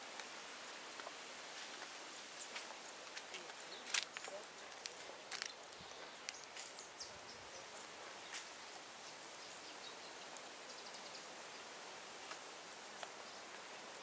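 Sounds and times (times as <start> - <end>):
steady outdoor hiss: 0.0 - 14.0
faint high chirps and ticks: 2.4 - 14.0.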